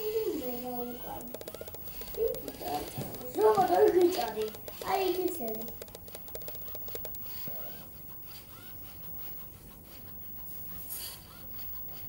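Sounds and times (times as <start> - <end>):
small gear motors running: 0.0 - 12.0.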